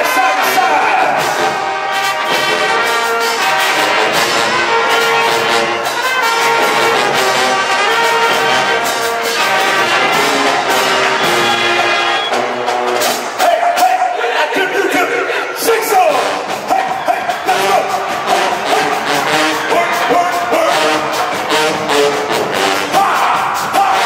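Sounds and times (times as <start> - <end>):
brass band playing chords: 0.0 - 24.0.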